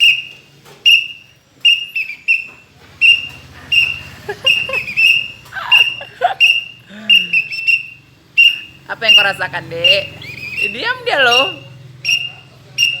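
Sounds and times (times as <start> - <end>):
toy whistle toots: 0.0 - 13.0.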